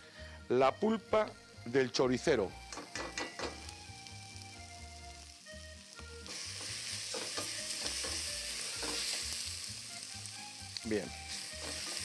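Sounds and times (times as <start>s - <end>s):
sauce sizzling loudly: 1.4s - 12.0s.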